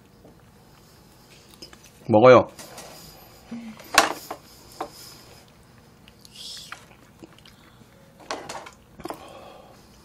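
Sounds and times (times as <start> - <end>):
soft chewing: 0.0 - 2.1, 3.0 - 10.0.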